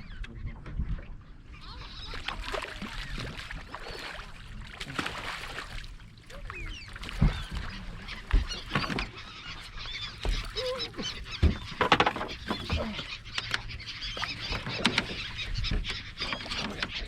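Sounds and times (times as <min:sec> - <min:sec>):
waterbirds squawking: 0:00.0 - 0:17.0.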